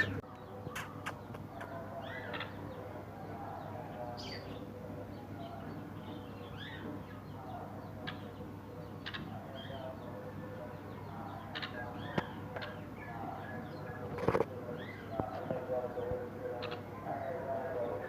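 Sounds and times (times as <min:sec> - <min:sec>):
caged birds calling: 0:00.0 - 0:18.0.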